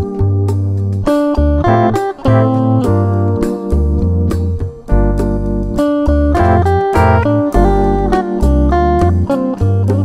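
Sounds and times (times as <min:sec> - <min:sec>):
bass line: 0:00.0 - 0:10.0
guitar notes: 0:00.0 - 0:10.0.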